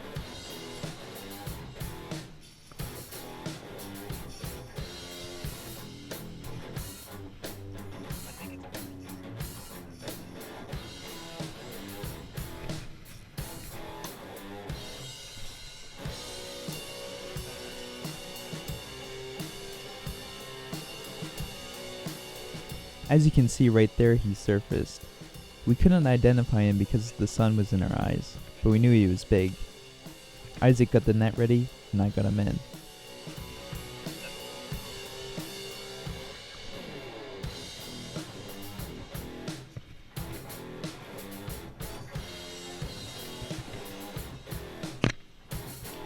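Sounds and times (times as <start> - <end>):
band playing with drum kit: 0.0 - 46.0
guitar: 0.0 - 46.0.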